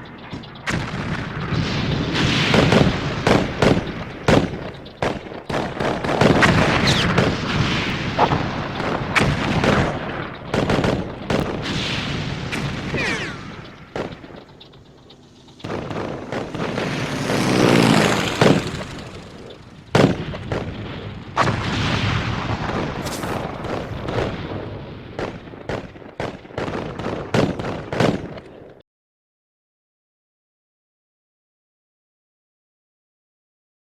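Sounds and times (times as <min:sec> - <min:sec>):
explosion booms and rumbling: 0:00.0 - 0:28.4
rapid gunfire: 0:00.0 - 0:28.5.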